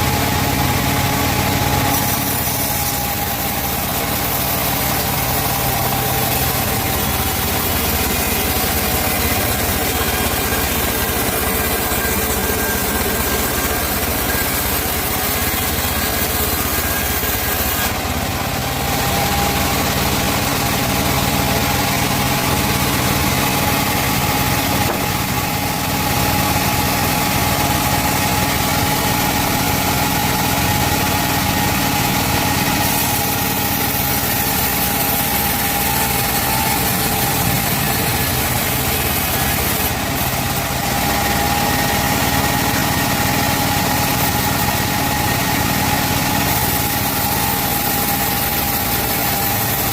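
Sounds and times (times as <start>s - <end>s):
chainsaw sawing wood: 0.0s - 49.9s.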